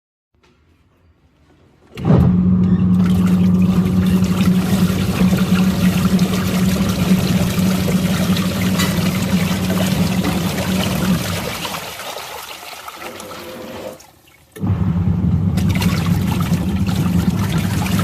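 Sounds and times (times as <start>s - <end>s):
washing machine motor hum: 2.0s - 12.3s, 12.9s - 18.0s
water churning and splashing: 2.9s - 14.8s, 15.4s - 18.0s.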